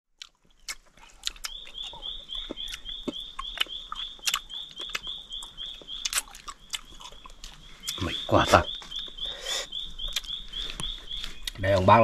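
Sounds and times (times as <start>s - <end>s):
man chewing with lip smacks: 0.2s - 11.9s.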